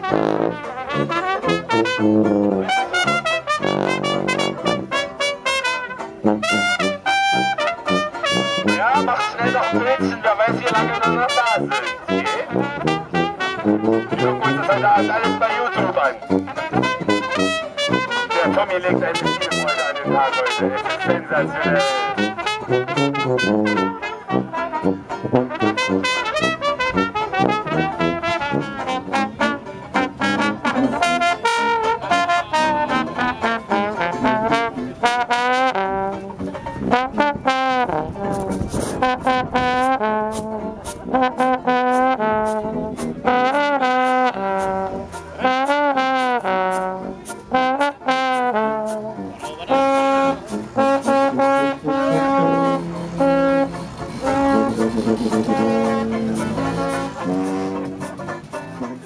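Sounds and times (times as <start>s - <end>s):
strummed banjo: 0.0s - 59.0s
trombone melody: 0.0s - 59.0s
trumpet playing: 0.0s - 59.0s.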